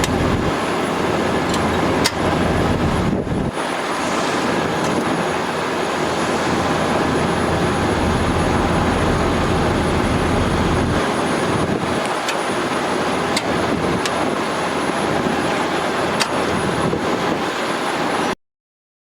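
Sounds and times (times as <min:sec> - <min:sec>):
truck engine rumble: 0:00.0 - 0:17.0
water pump rushing: 0:00.0 - 0:18.2.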